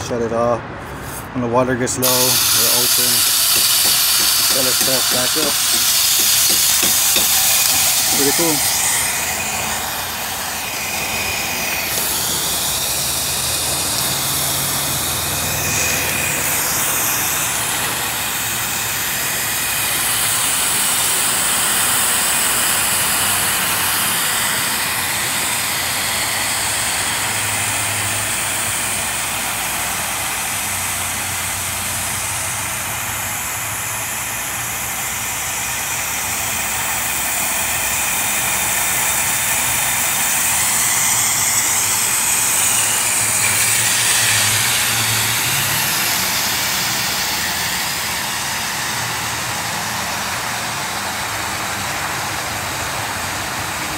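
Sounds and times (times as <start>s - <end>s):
water hissing through fill valve: 2.0s - 53.8s.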